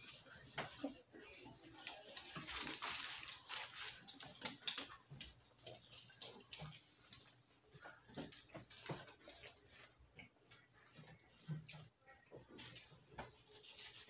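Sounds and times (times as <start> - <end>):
chewing and lip-smacking: 0.1 - 14.0.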